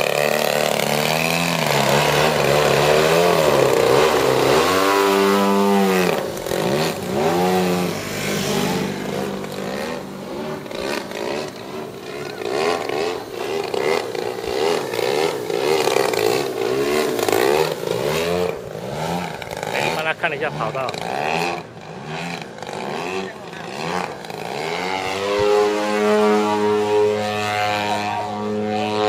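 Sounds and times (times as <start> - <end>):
model plane engine in flight: 0.0 - 29.0.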